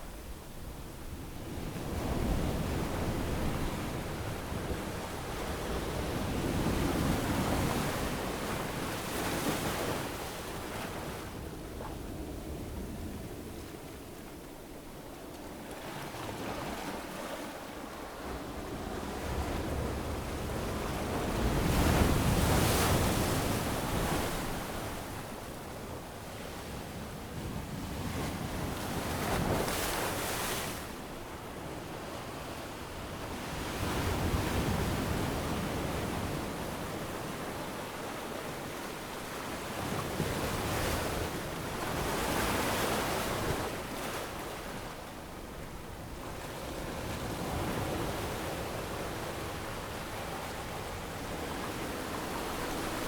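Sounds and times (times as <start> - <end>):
ocean waves breaking on a beach: 0.0 - 53.0.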